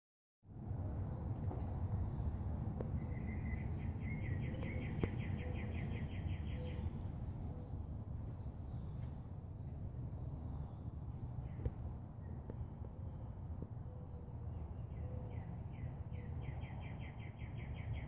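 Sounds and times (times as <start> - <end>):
steady low rumble: 0.5 - 16.6.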